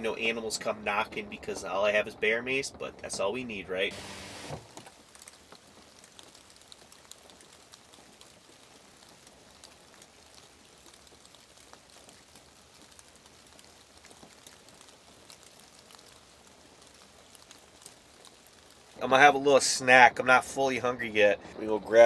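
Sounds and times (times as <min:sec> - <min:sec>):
raindrops ticking: 0:00.0 - 0:04.0, 0:04.7 - 0:22.0.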